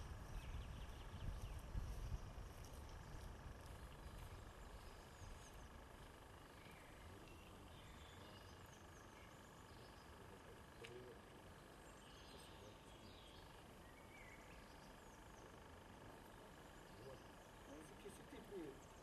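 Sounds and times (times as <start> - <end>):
faint bird chirps: 0.1 - 19.0.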